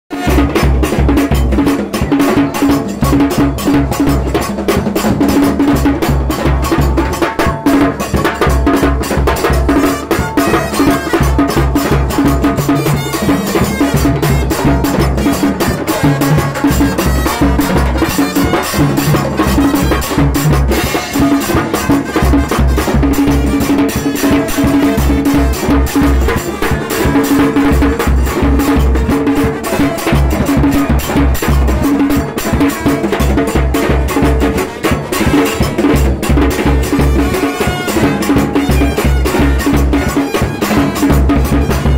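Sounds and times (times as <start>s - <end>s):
sharp clicking drum strikes: 0.2s - 41.9s.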